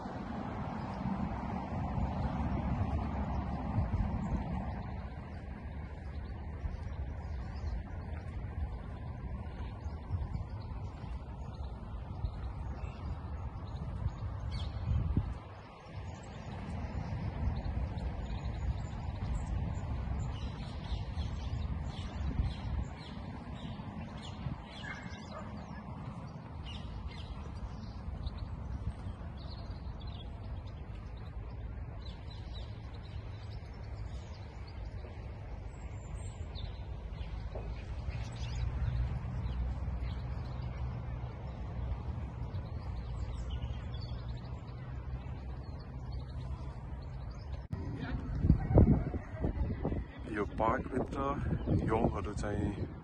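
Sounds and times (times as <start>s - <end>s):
birds chirping and calling: 4.3s - 40.8s, 42.4s - 53.0s.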